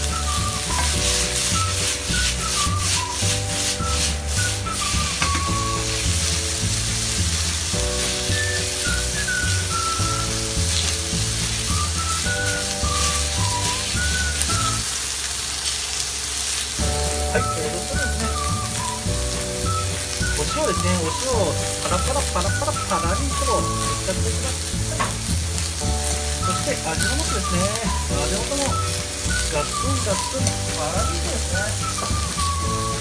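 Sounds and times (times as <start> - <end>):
background music: 0.0 - 14.9, 16.8 - 33.0
food sizzling in oil: 0.0 - 33.0
spatula stirring in pan: 0.0 - 33.0.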